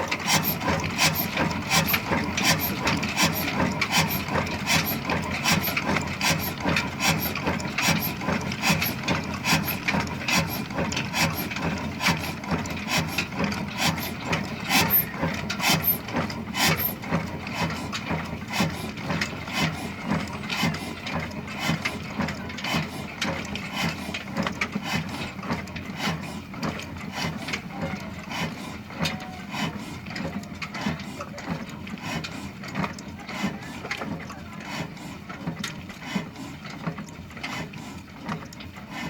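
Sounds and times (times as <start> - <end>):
engine clattering with knocks: 0.0 - 39.0.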